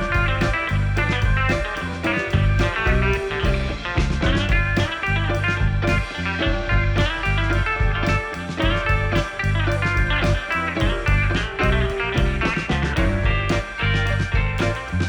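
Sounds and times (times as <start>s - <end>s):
blues-rock guitar instrumental: 0.0s - 15.0s.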